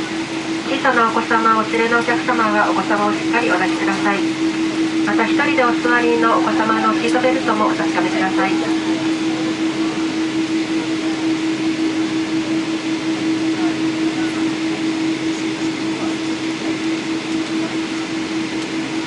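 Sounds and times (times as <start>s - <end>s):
airliner cabin drone: 0.0s - 19.0s.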